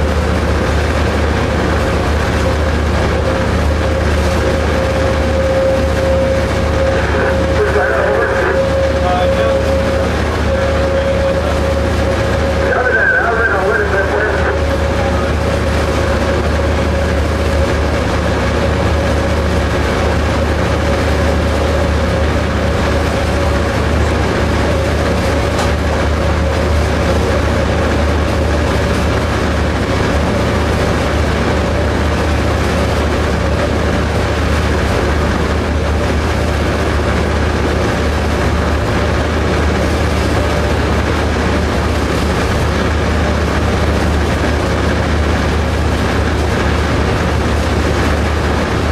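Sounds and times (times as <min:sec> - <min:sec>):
diesel engine droning: 0:00.0 - 0:48.9
thin steady whine: 0:00.0 - 0:48.9.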